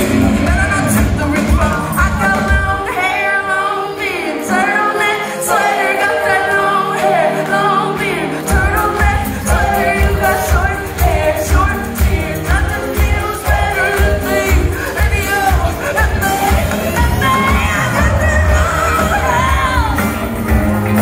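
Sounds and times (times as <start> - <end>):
live pop band: 0.0 - 21.0
woman singing lead: 0.0 - 21.0.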